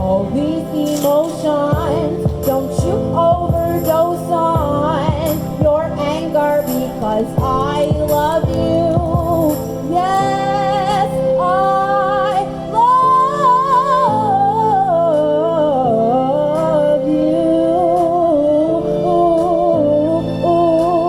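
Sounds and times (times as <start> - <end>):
held backing chords: 0.0 - 21.0
woman singing wordless vocal: 0.0 - 21.0.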